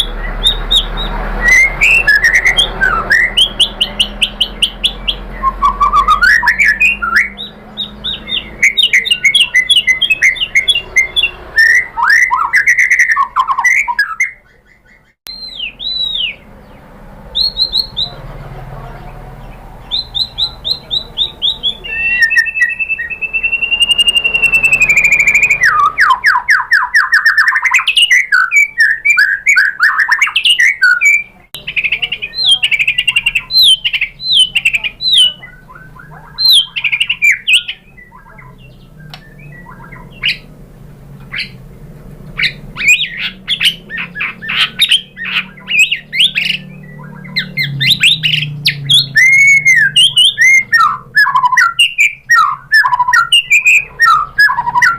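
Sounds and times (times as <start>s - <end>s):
songbird trills and whistles: 0.0s - 18.2s, 19.4s - 40.5s, 41.3s - 41.6s, 42.4s - 54.9s.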